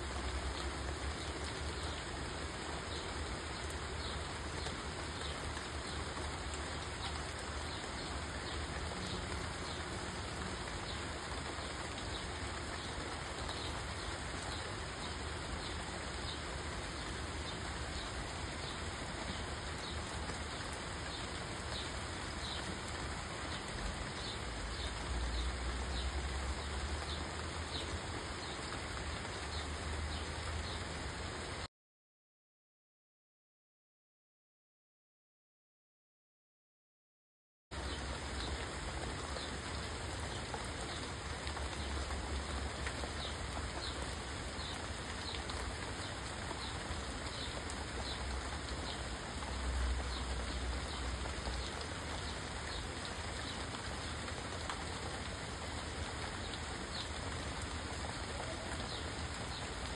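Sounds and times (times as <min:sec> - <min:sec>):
heavy rain on trees: 0:00.0 - 0:31.7, 0:37.7 - 0:59.9.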